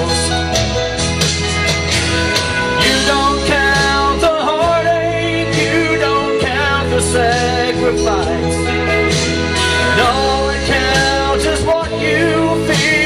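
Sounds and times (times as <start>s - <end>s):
country instrumental music: 0.0s - 13.0s.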